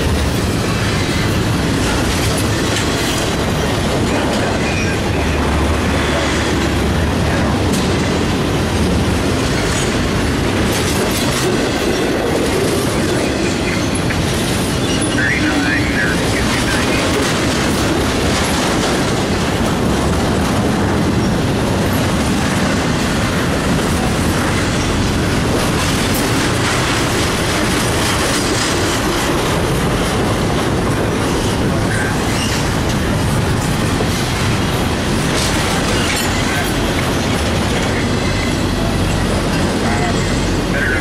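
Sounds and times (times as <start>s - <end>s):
freight train wheels rumbling: 0.0s - 41.0s.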